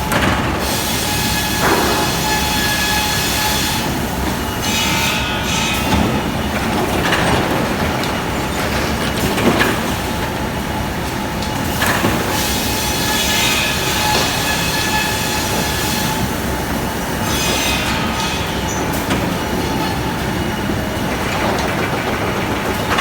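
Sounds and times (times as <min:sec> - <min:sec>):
sawmill machinery din: 0:00.0 - 0:23.0.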